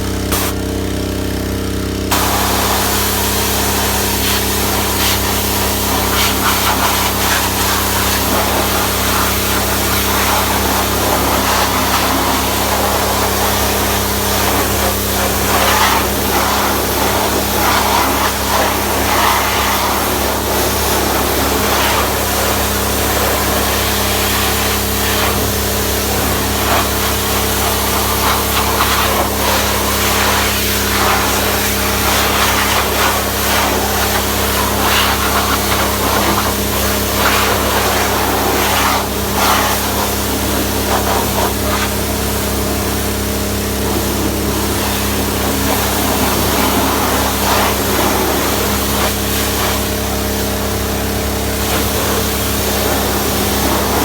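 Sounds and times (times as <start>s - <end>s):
pressure washer engine running: 0.0s - 54.0s
water jet spraying: 0.1s - 0.8s, 2.1s - 54.0s.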